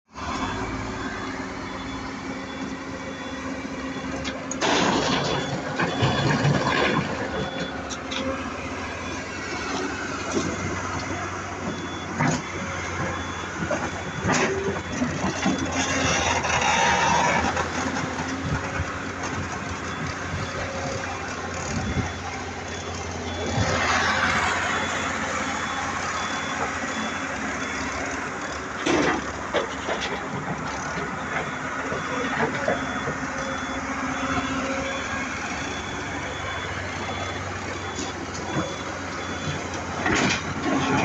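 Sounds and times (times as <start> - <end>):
diesel engines running: 0.1 - 41.0.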